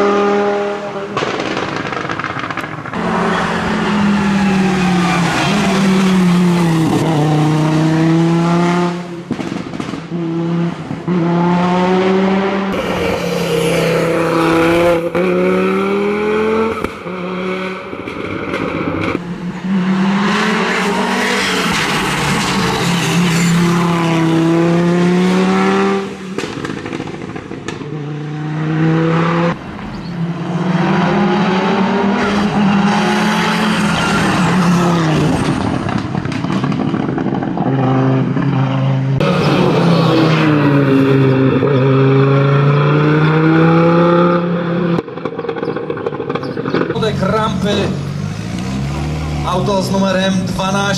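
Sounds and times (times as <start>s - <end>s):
rally car engine at full throttle: 0.0s - 50.9s.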